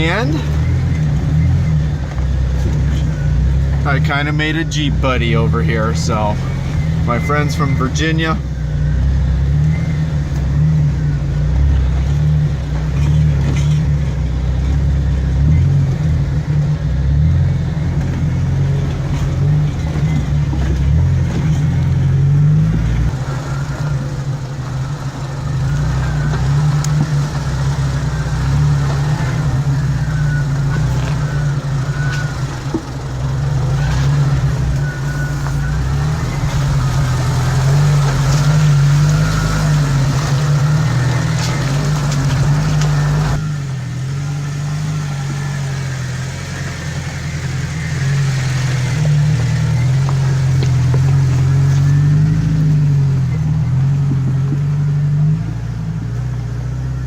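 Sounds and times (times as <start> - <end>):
engine running at low speed: 0.0 - 57.0.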